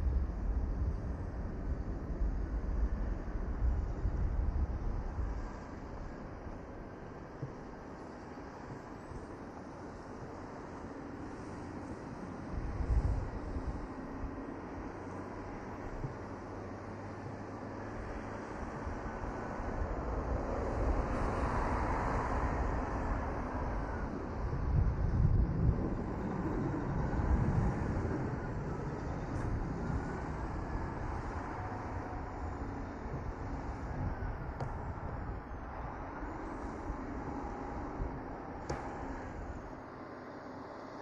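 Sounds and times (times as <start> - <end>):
road traffic hum: 0.0 - 41.0.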